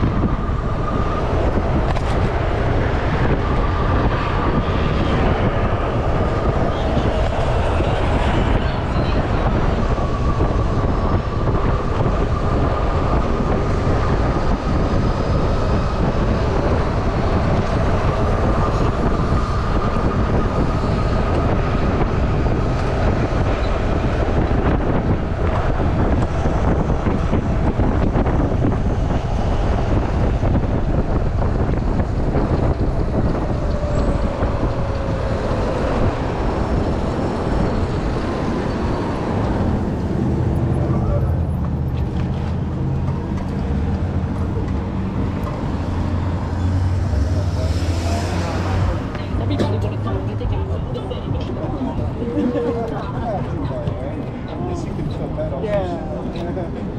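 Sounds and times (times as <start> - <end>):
wind and road rumble: 0.0 - 56.9.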